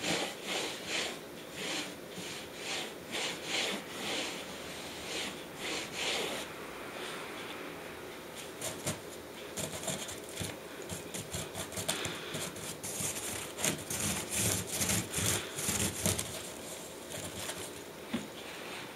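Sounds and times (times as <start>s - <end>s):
cat scratching wicker basket: 0.0s - 6.5s, 8.4s - 17.8s.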